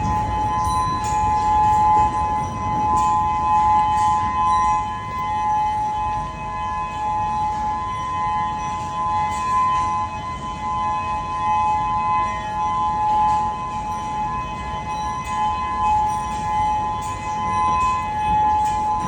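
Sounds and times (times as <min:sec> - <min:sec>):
civil defense warning siren: 0:00.0 - 0:19.0.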